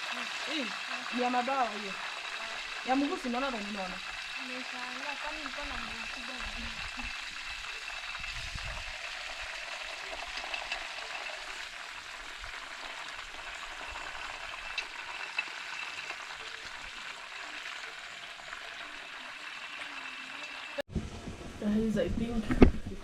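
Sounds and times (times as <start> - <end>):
chicken sizzling in hot oil: 0.0 - 20.9.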